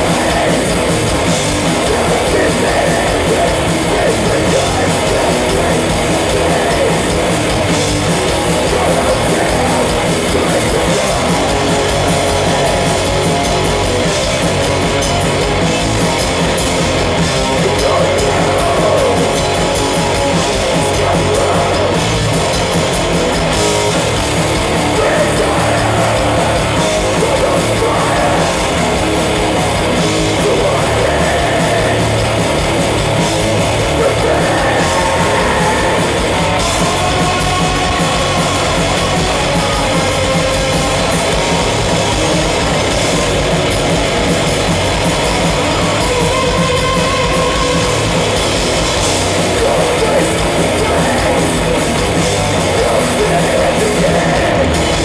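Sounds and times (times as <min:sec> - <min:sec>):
distorted electric guitar: 0:00.0 - 0:55.0
drums: 0:00.0 - 0:55.0.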